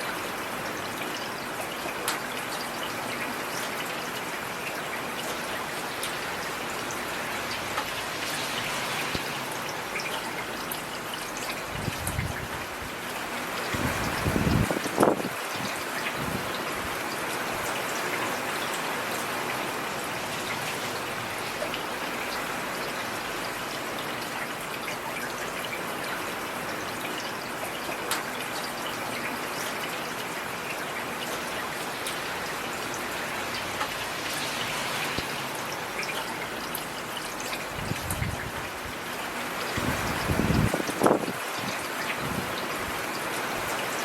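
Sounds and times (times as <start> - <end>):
heavy rain falling: 0.1 - 44.0.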